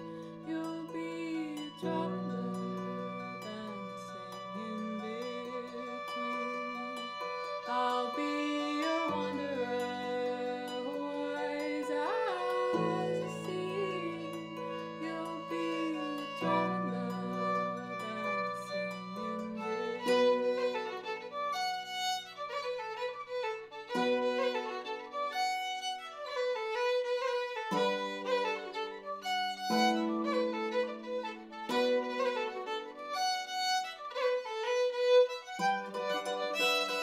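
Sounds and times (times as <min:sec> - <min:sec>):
fiddle melody: 0:00.0 - 0:37.0
harp plucked accompaniment: 0:00.0 - 0:37.0.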